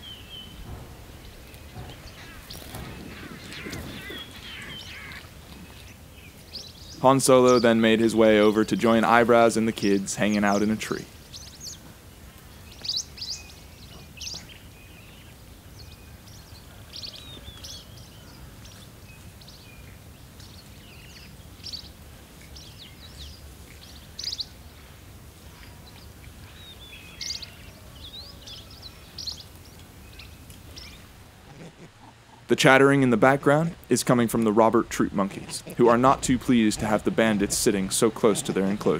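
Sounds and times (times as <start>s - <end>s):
low outdoor rumble: 0.0s - 12.7s, 17.9s - 38.9s.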